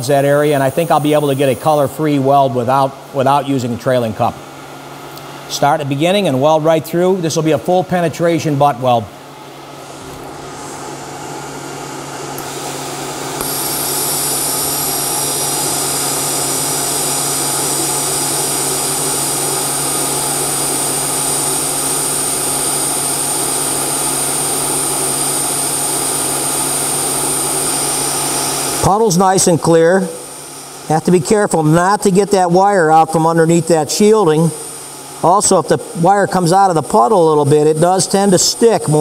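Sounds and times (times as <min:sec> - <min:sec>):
welding arc hiss and buzz: 0:00.0 - 0:02.8, 0:09.6 - 0:39.0.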